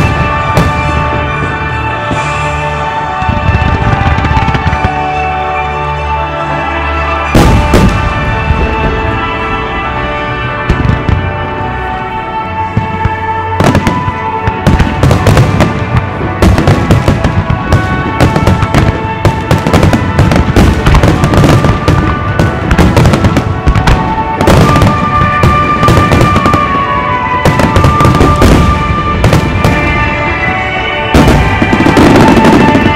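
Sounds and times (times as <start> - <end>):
fireworks bursting: 0.0 - 5.5, 7.1 - 32.9
music with held notes: 0.0 - 32.9.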